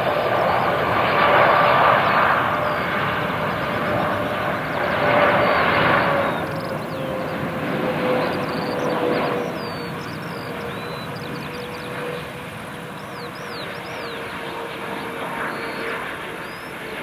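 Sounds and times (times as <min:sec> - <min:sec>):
jet engines roaring: 0:00.0 - 0:17.0
small birds chirping: 0:02.5 - 0:17.0.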